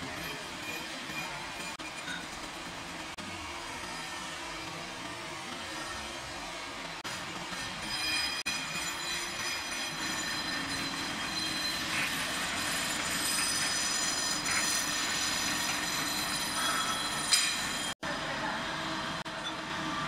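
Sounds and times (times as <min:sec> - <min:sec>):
lathe whirring and whining: 0:00.0 - 0:20.0.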